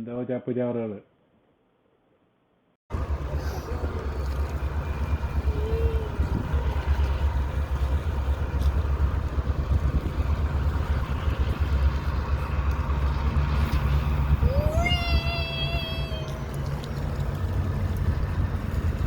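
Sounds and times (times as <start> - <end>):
steady low rumble: 2.9 - 19.0.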